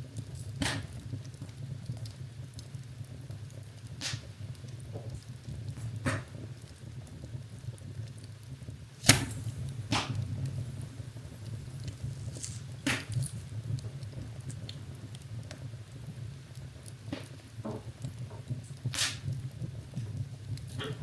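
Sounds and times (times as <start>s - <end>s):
fire rumbling: 0.0s - 21.0s
wood crackling and popping: 0.0s - 21.0s.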